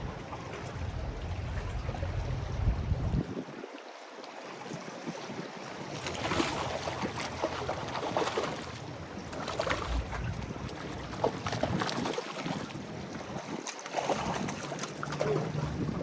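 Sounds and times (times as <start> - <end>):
wind buffeting microphone: 0.0 - 3.8, 4.7 - 16.0
waves splashing against jetty: 0.0 - 16.0.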